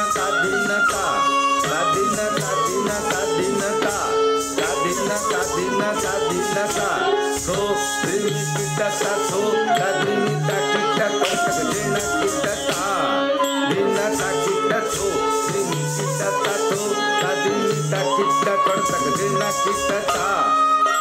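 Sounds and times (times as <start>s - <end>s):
jingling small percussion: 0.0s - 21.0s.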